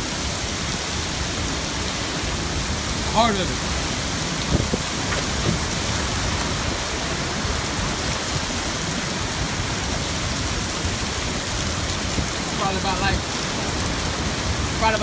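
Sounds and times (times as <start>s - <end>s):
driving rain: 0.0s - 15.0s
hurricane-force wind: 0.0s - 15.0s.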